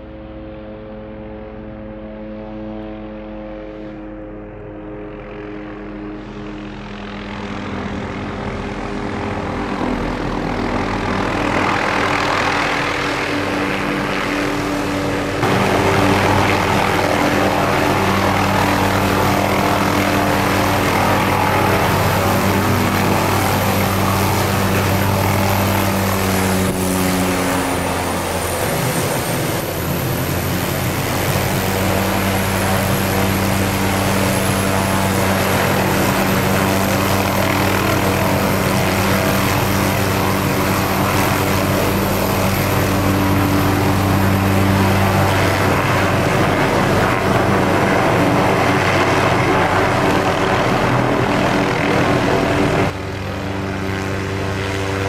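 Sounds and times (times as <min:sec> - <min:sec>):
helicopter rotor beating: 0:00.0 - 0:55.0
high turbine whine: 0:06.6 - 0:55.0.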